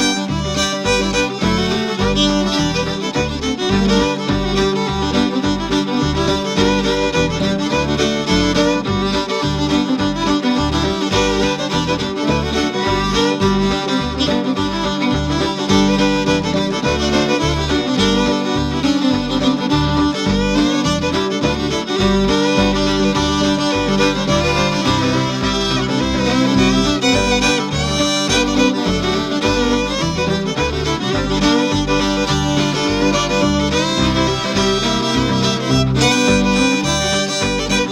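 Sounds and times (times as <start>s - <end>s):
fiddle music: 0.0s - 37.9s
low steady beat: 0.0s - 37.9s.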